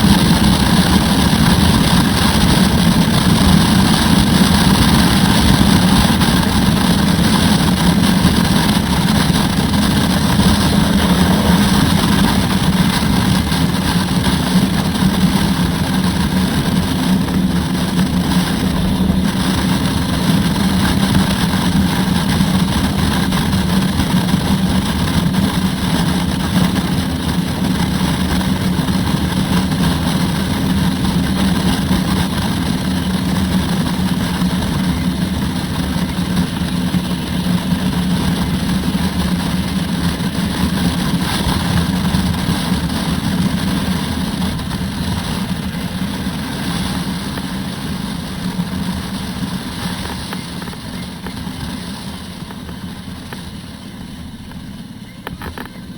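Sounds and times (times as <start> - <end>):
wind noise rushing: 0.0 - 54.1
motorcycle engine running: 0.0 - 55.9.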